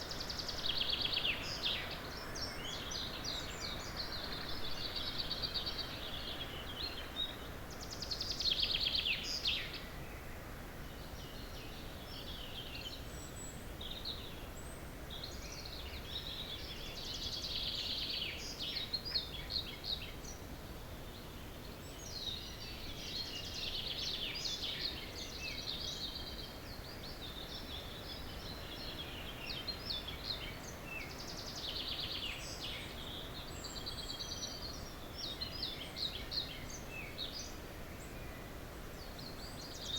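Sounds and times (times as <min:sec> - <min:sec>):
low background noise: 0:00.0 - 0:39.9
songbirds singing: 0:00.0 - 0:39.9.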